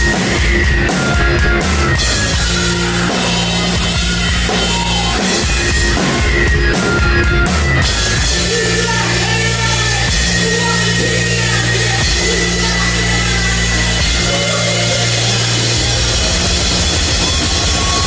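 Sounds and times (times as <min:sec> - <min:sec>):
hard rock band playing: 0:00.0 - 0:18.0
person singing: 0:00.0 - 0:18.0.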